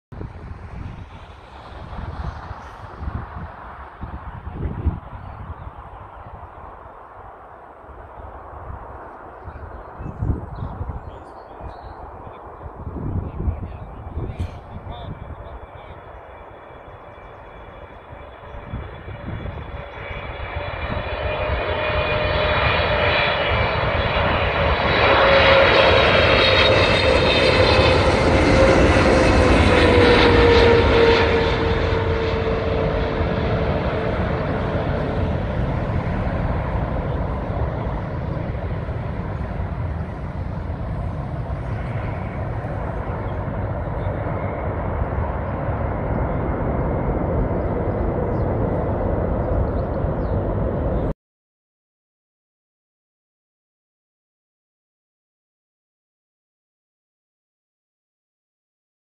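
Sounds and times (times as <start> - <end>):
jet engine roar: 0.1 - 51.2.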